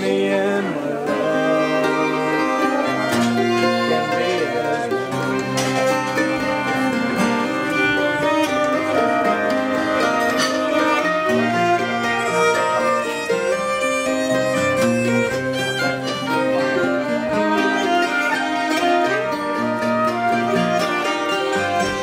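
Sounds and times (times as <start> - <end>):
acoustic guitar: 0.0 - 22.0
fiddle: 0.0 - 22.0
flute: 0.0 - 22.0
mandolin: 0.0 - 22.0.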